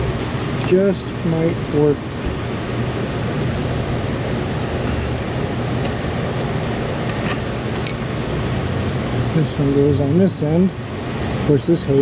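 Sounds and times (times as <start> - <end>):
machinery rushing with low hum: 0.0 - 12.0.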